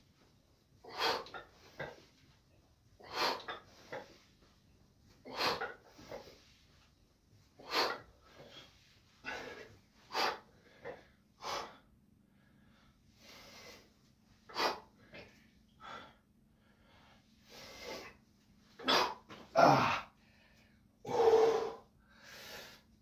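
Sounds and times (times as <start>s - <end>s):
man breathing heavily: 0.8s - 2.2s, 3.0s - 4.4s, 5.2s - 6.7s, 7.6s - 18.2s, 18.8s - 23.0s.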